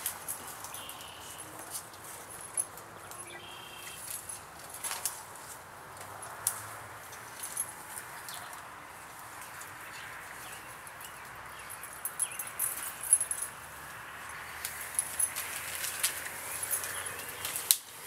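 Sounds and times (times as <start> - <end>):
branches cracking and rustling: 0.0 - 12.9, 13.5 - 18.0.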